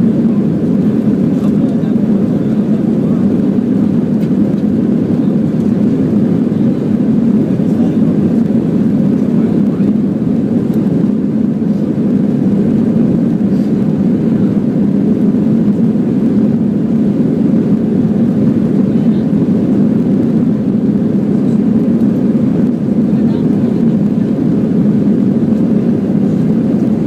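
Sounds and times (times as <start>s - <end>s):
airliner cabin jet engine roar: 0.0s - 27.0s.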